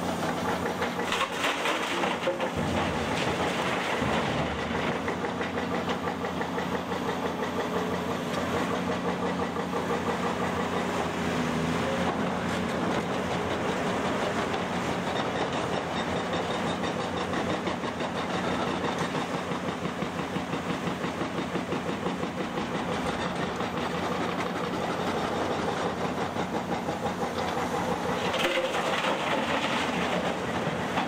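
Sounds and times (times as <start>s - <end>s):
diesel engine of heavy machine: 0.0s - 31.0s.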